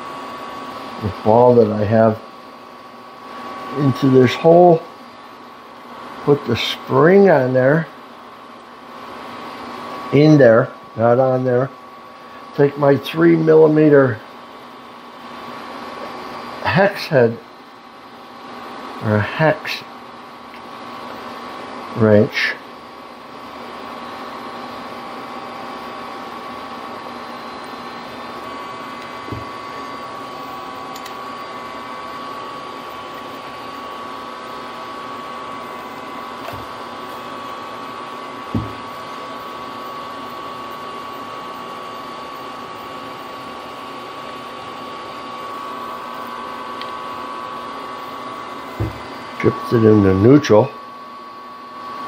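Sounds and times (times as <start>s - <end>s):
mechanical hum with whine: 0.0s - 52.0s.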